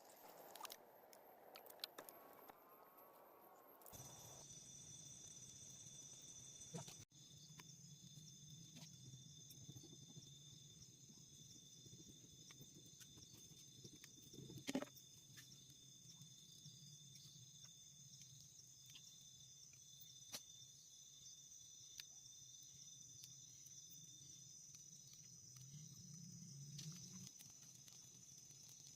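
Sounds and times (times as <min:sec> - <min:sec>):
insects chirring: 0:03.8 - 0:28.9.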